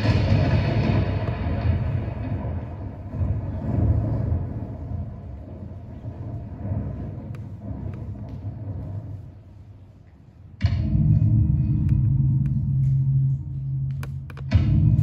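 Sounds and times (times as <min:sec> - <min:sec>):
low rumbling over speaker: 0:00.0 - 0:15.0.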